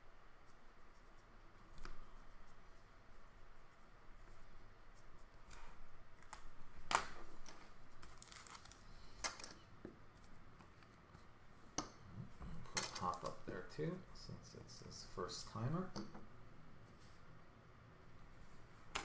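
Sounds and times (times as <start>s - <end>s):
soft rustling of cards: 0.1s - 16.0s.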